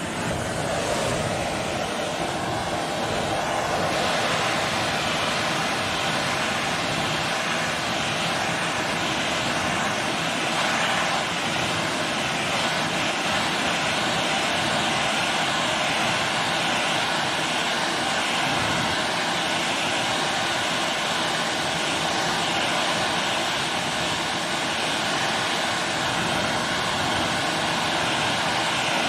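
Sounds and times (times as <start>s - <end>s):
torch flame hissing: 0.0s - 29.0s.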